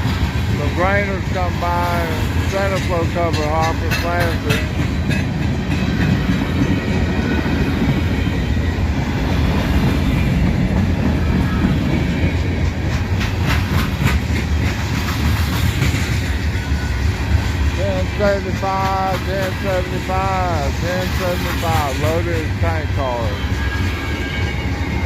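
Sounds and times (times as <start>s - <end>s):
wheels clacking over rail joints: 0.0s - 24.3s
train wheels rumbling on rail: 0.0s - 25.0s.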